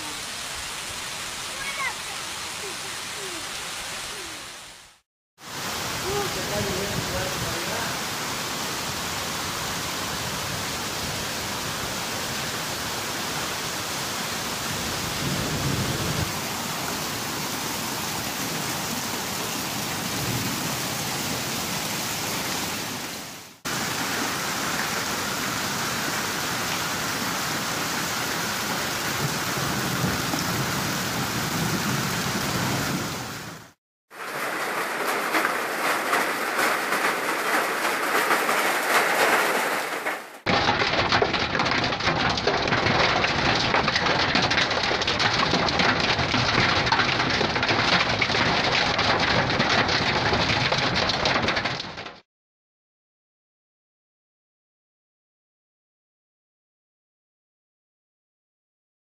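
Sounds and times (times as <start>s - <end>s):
heavy rain and hail: 0.0s - 52.2s.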